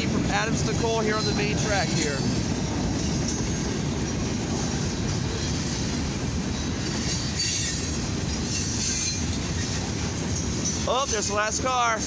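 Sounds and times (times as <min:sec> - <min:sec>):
freight train wheels rumbling on rail: 0:00.0 - 0:12.0.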